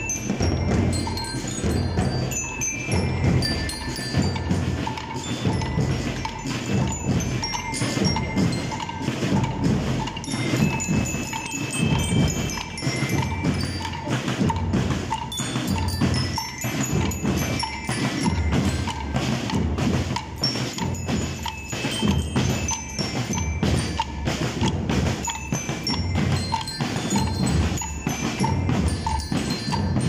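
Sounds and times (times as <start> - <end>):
bell lyre notes: 0.0 - 30.0
marching drums beating: 0.0 - 30.0.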